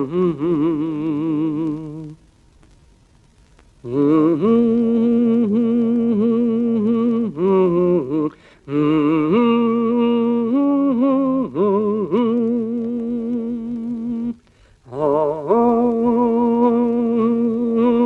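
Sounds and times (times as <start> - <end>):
person singing wordless melody: 0.0 - 2.3, 3.8 - 18.0.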